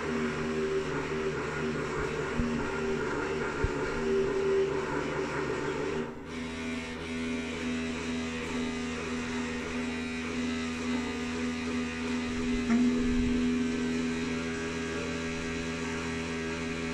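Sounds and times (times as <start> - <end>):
toilet plumbing droning: 0.0 - 16.9.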